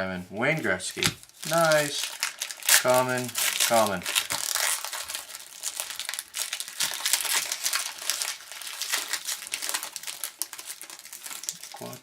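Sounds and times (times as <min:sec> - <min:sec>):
foil wrapper crinkling: 0:00.4 - 0:12.0.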